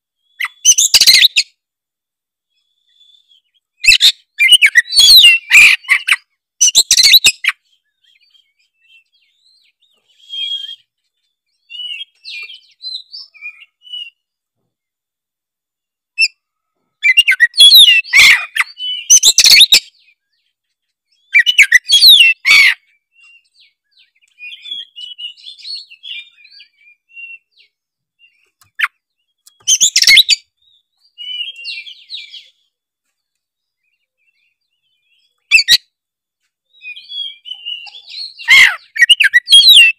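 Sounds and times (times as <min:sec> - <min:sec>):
songbird singing: 0:00.0 - 0:01.7, 0:02.4 - 0:39.9.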